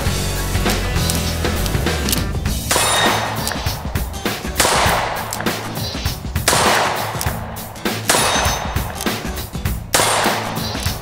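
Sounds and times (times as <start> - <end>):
background music: 0.0 - 11.0
revolver shots with echo: 0.7 - 11.0.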